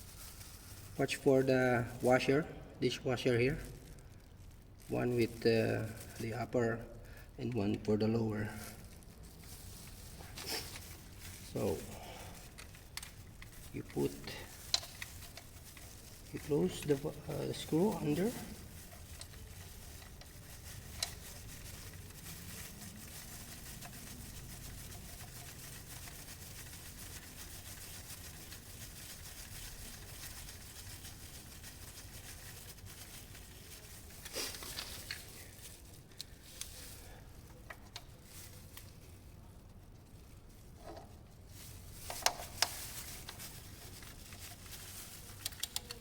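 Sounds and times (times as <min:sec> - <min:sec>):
steady low hiss: 0:00.0 - 0:46.0
small clicks and rustles: 0:08.5 - 0:46.0.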